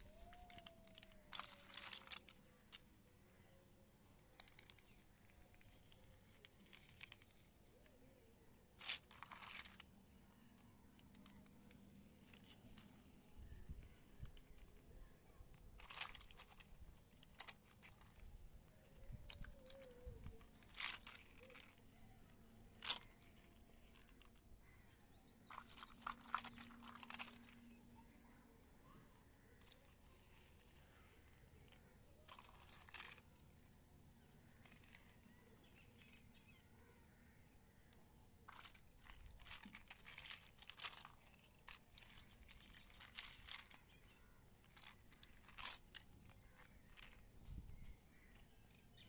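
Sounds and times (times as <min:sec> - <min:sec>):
plastic toys rustling and clicking: 0:00.0 - 0:03.4, 0:04.0 - 0:49.0.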